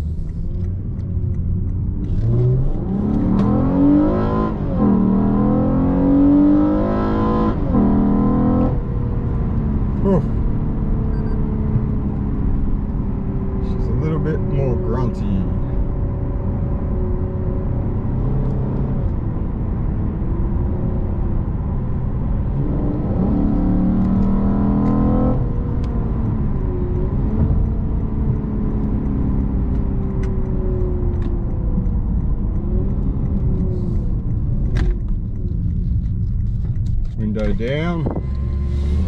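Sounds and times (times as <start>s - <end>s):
car engine heard from cabin: 0.0s - 39.0s.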